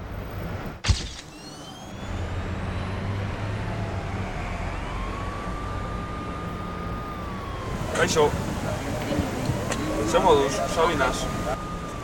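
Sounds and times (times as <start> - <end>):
distant traffic hum: 0.0 - 12.0
wind: 0.0 - 12.0.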